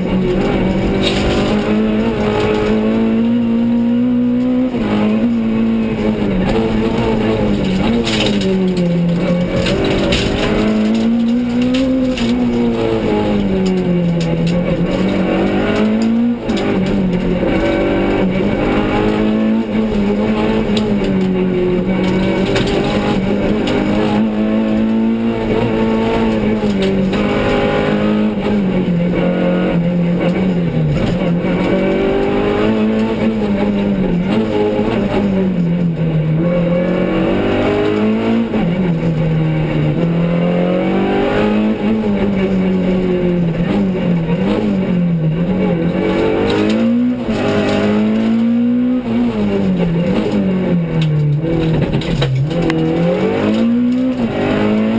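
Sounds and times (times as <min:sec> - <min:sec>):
car engine revving: 0:00.0 - 0:54.9
road and tyre noise: 0:00.0 - 0:54.9.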